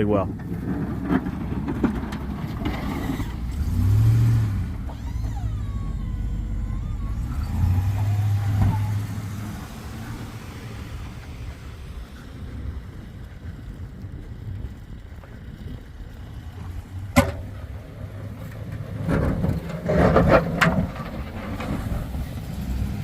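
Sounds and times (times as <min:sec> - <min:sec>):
truck engine revving: 0:00.4 - 0:23.0.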